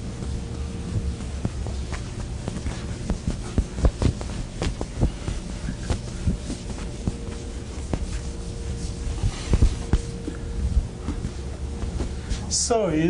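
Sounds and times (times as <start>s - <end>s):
low room hum: 0.0s - 13.0s
chalk tapping and scratching: 0.1s - 12.4s.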